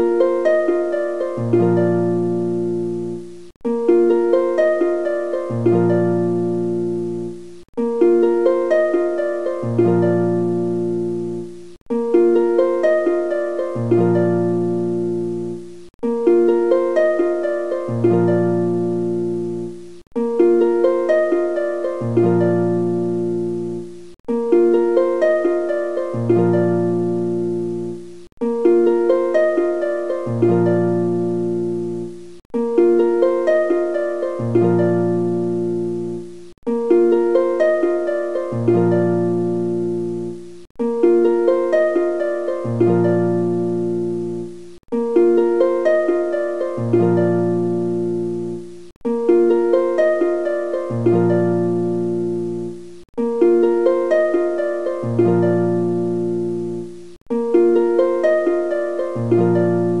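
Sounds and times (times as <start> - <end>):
looped plucked-string melody: 0.0 - 60.0.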